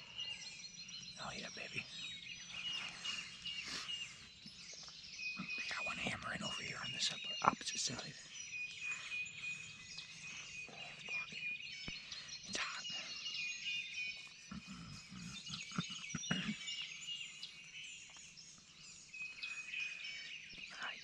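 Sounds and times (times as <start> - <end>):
songbirds chirping and whistling: 0.0 - 21.0.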